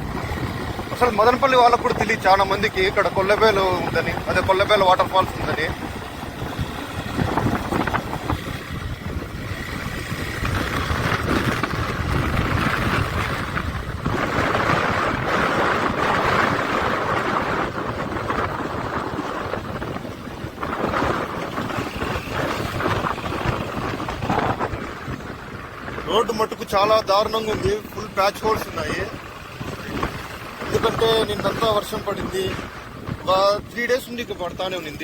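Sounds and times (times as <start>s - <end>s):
motorcycle engine rumble: 0.0s - 35.0s
wind buffeting microphone: 0.0s - 35.0s.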